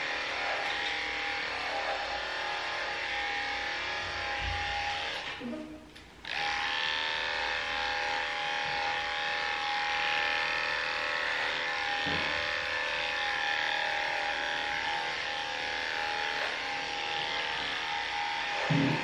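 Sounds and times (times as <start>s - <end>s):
electric clippers humming: 0.0s - 19.0s.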